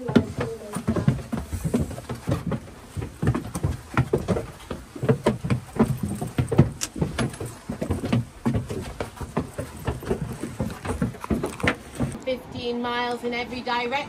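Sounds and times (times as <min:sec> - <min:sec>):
footsteps on wooden stairs: 0:00.0 - 0:12.2.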